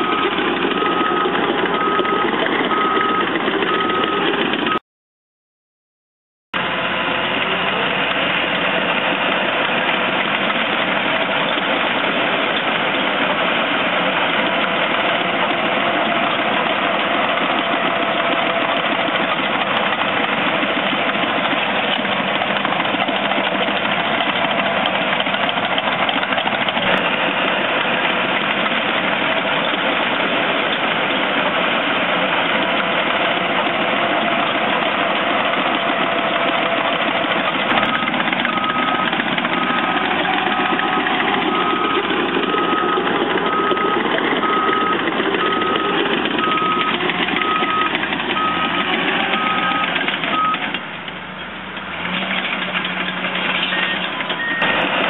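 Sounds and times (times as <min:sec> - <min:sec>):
bulldozer diesel engine running: 0:00.0 - 0:04.8, 0:06.6 - 0:55.0.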